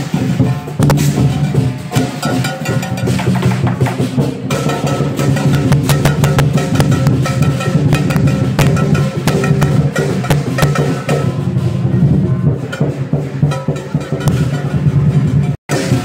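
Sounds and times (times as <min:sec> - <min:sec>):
cymbals clashing: 0:00.0 - 0:16.0
drum beaten fast: 0:00.0 - 0:16.0.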